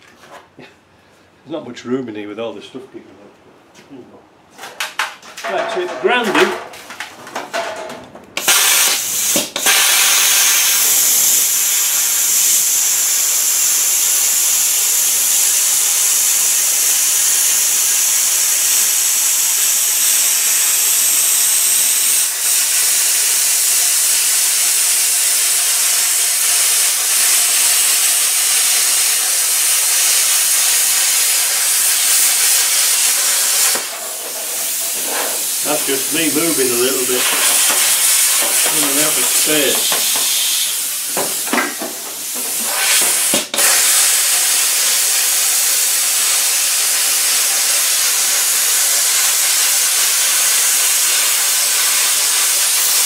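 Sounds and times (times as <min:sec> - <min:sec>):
plasma cutter hissing: 0:08.4 - 0:53.0.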